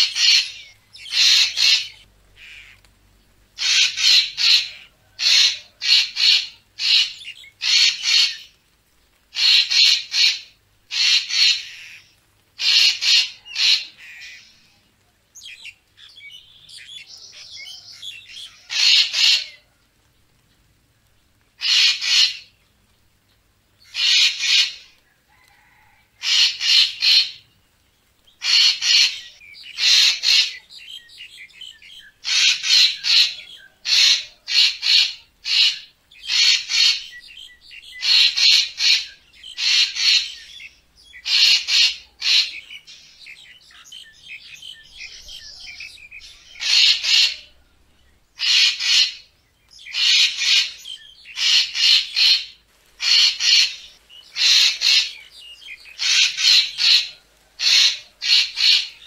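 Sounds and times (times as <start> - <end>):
bird giving harsh calls: 0.0 - 2.8, 3.6 - 8.6, 9.3 - 14.7, 15.4 - 19.7, 21.6 - 22.6, 23.8 - 25.0, 25.6 - 27.4, 28.4 - 47.6, 48.4 - 59.0.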